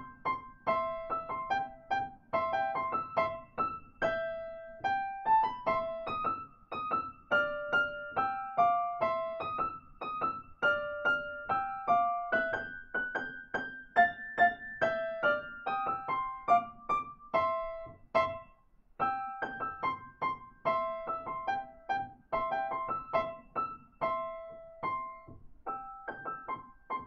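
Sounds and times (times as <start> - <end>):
piano march: 0.0 - 27.0.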